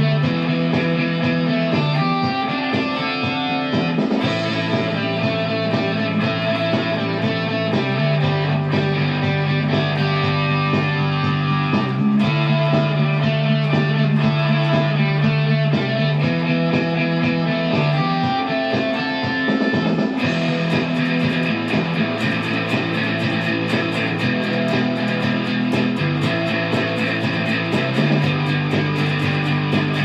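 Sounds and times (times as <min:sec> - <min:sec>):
bass backing track: 0:00.0 - 0:30.0
electric guitar rock song: 0:00.0 - 0:30.0.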